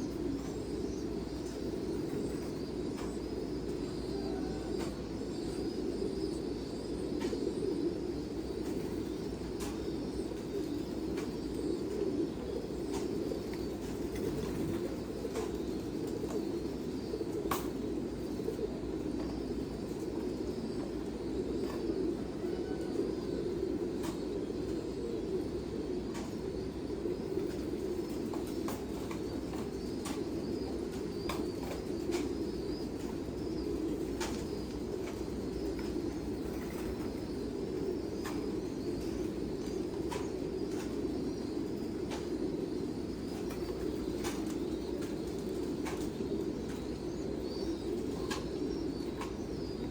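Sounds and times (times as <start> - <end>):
pigeons cooing: 0.0 - 49.9.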